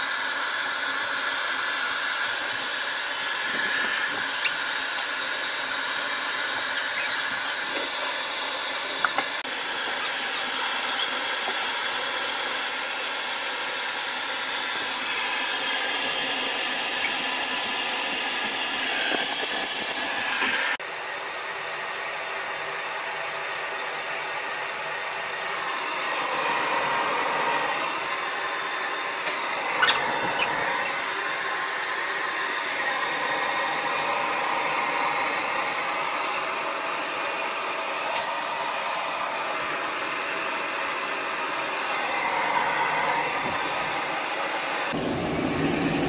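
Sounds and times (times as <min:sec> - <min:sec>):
pet blow dryer running: 0:00.0 - 0:46.0.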